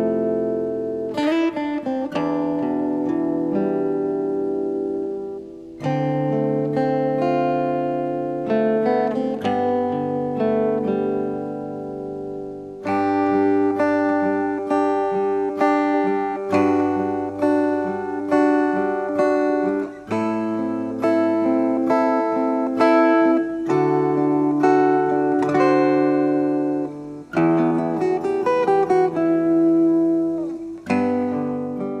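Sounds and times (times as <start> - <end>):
acoustic guitar playing: 0.0 - 32.0.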